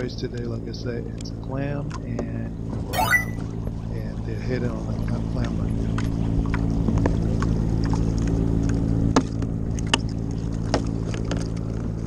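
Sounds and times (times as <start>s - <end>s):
low mechanical hum: 0.0s - 2.7s, 4.0s - 12.0s.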